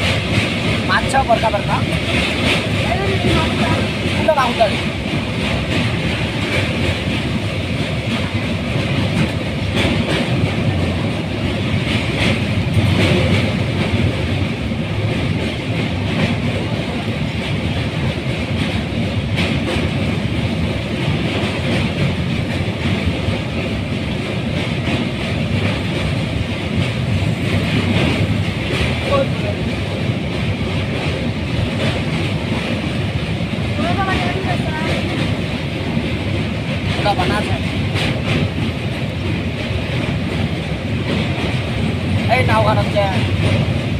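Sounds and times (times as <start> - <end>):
faint rail clacks: 0.0 - 43.9
train wheels rumbling on rail: 0.0 - 43.9.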